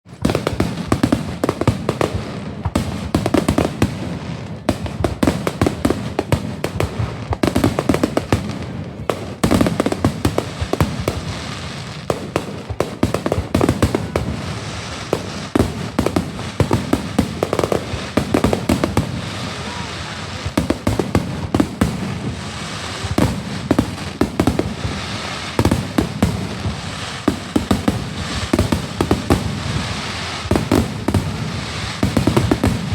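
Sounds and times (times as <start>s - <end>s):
fireworks crackling and popping: 0.0s - 32.9s
loud firework bangs: 0.1s - 32.9s.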